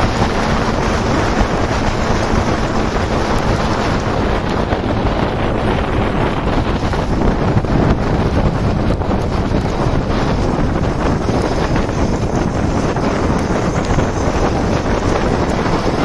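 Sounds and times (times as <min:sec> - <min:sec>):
road noise: 0:00.0 - 0:16.0
wind rushing over microphone: 0:00.0 - 0:16.0.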